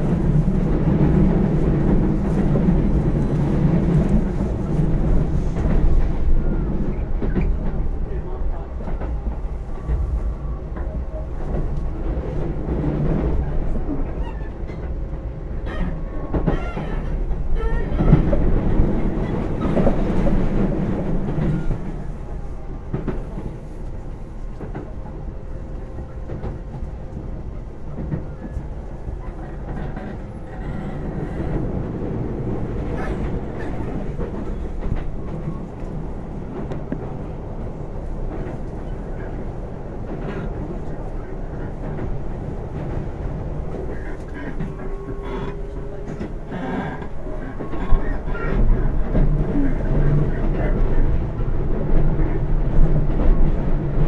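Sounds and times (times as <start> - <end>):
rail joint clicks: 0.0 - 54.0
rumble of train wheels on rail: 0.0 - 54.0.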